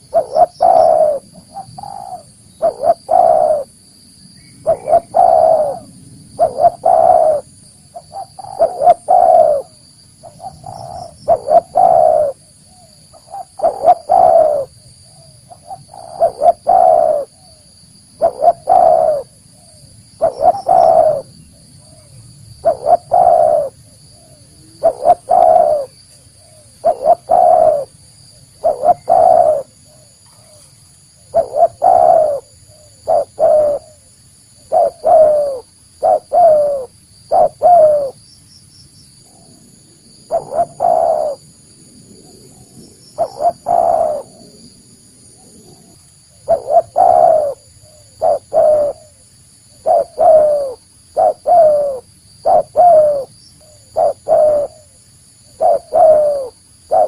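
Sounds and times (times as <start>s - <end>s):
dove cooing: 0.0s - 3.8s, 4.6s - 38.2s, 39.3s - 57.0s.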